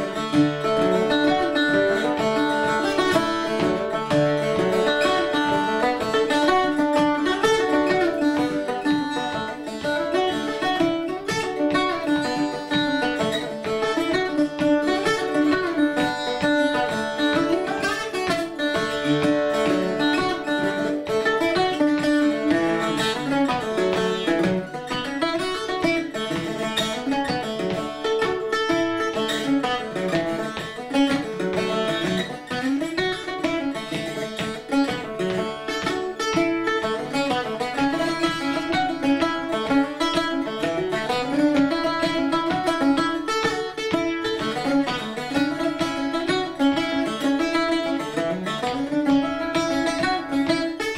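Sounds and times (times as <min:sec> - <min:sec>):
plucked string instrument jig: 0:00.0 - 0:50.9.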